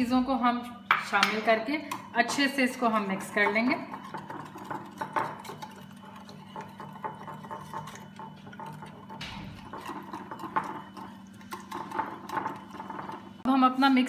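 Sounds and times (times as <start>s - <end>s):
whisk wires tapping dish: 1.2s - 13.4s
whisk stirring liquid: 2.0s - 13.4s.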